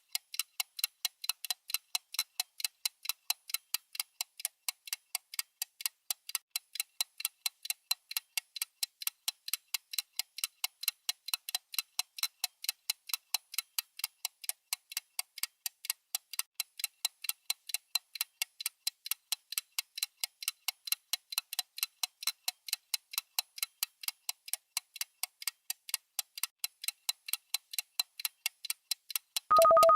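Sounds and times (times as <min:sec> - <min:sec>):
rapid timer ticking: 0:00.0 - 0:29.9.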